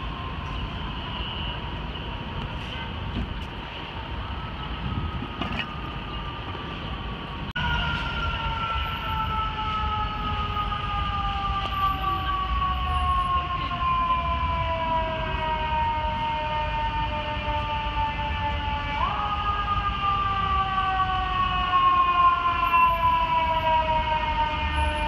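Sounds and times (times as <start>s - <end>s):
city traffic noise: 0.0s - 25.0s.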